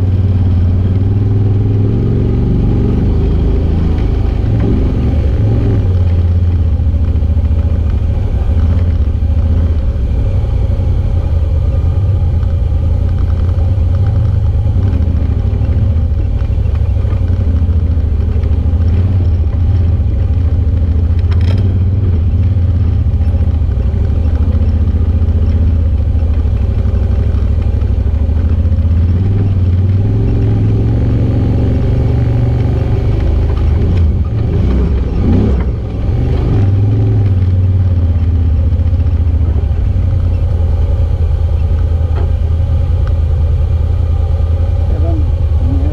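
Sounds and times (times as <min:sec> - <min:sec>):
utility vehicle engine droning: 0:00.0 - 0:45.9.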